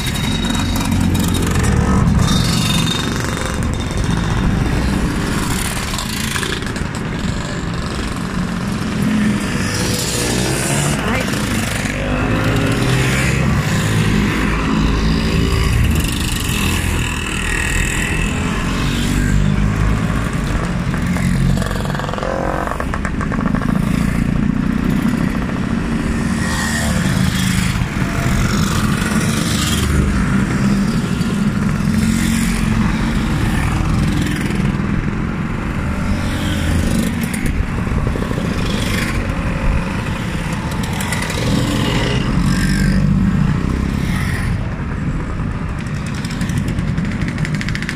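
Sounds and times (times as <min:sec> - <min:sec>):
scooters buzzing past: 0:00.0 - 0:47.9.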